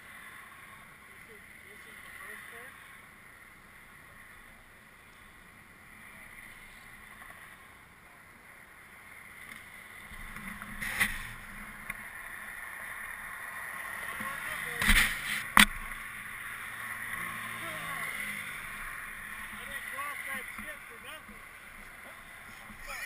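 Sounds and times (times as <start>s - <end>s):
snowmobile engine whine: 0.0s - 23.0s.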